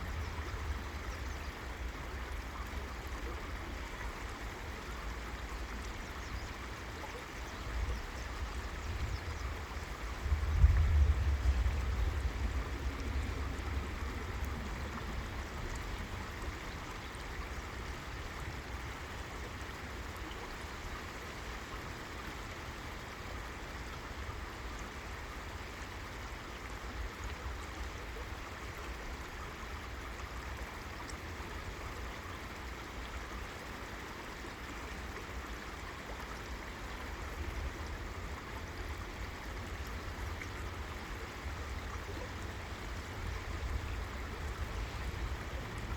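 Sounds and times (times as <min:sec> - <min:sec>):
river water flowing over rocks: 0:00.0 - 0:45.9.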